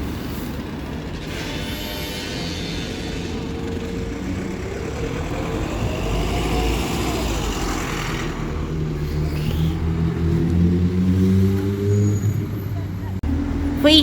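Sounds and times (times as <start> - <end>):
vehicle engine rumbling past: 0.0 - 13.8.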